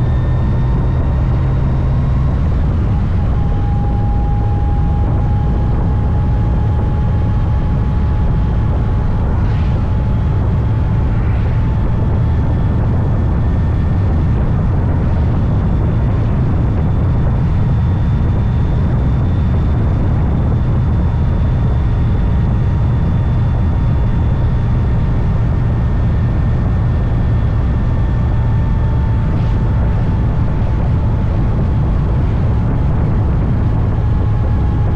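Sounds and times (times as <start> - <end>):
faint steady whine: 0.0 - 34.9
motorcycle engine and wind rumble: 0.0 - 34.9.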